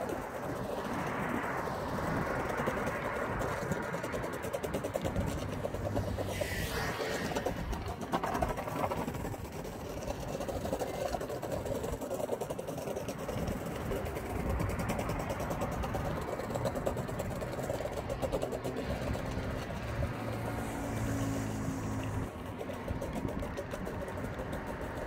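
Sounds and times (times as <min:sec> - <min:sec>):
longboard wheels rolling on brick: 0:00.0 - 0:25.0.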